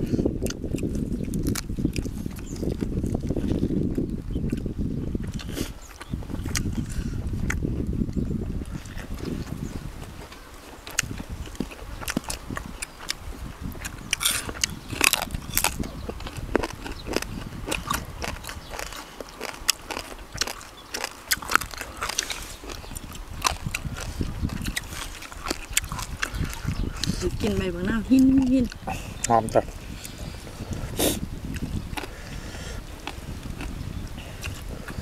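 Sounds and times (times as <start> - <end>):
chewing and crunching food: 0.0 - 35.0.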